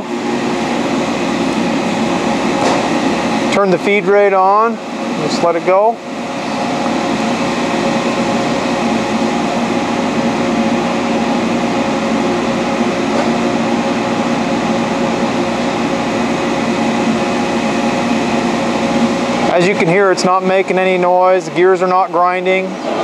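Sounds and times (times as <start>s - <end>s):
lathe running: 0.0s - 23.0s.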